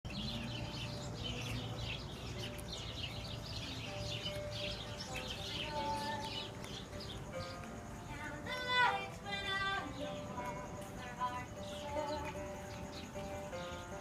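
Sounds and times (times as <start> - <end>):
songbirds chirping: 0.0 - 14.0
faint held musical tones: 0.1 - 14.0.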